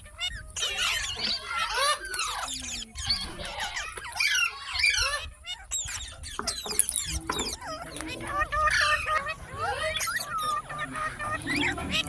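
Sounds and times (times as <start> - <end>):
parrot chirping and whistling: 0.0 - 7.9, 8.5 - 12.0.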